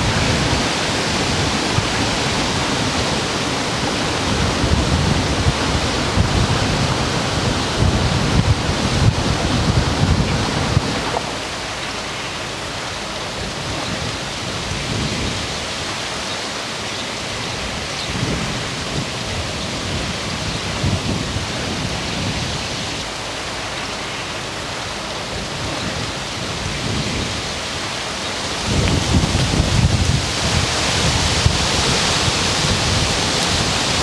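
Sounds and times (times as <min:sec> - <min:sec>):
wind buffeting on microphone: 0:00.0 - 0:34.0
wind rustling leaves: 0:00.0 - 0:34.0.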